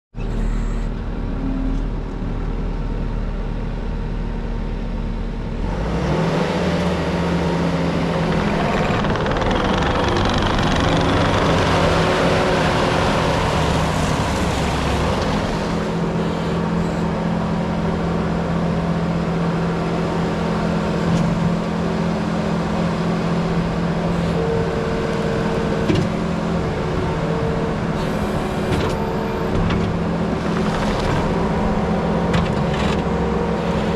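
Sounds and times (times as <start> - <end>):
diesel engine running: 0.2 - 33.9.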